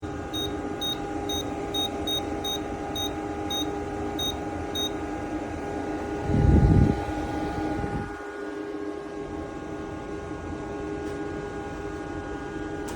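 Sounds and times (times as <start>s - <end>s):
air cooler fan hum: 0.0s - 12.9s.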